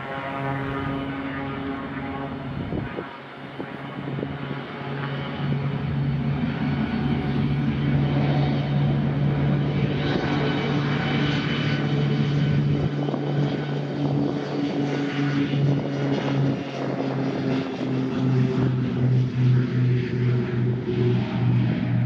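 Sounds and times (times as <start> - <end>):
turboprop propeller drone: 0.0 - 22.0.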